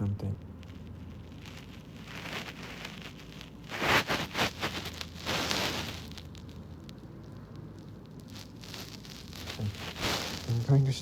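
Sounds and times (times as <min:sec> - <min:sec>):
crackling rustling noise: 0:00.0 - 0:11.0.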